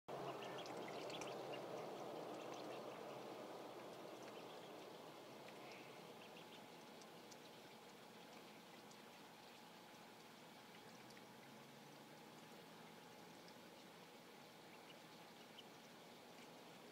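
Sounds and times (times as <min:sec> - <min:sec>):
ducklings peeping: 0:00.1 - 0:11.4, 0:13.4 - 0:16.9
water splashing and trickling: 0:00.1 - 0:16.9.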